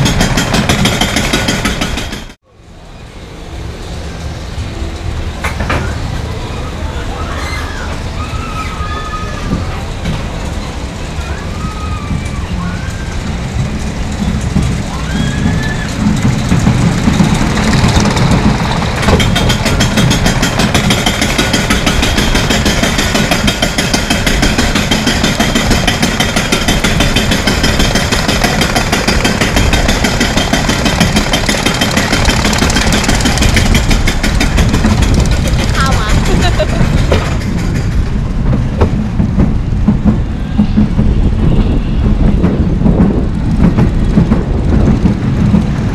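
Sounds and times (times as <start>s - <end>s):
roller coaster rumbling on track: 0.0s - 45.9s.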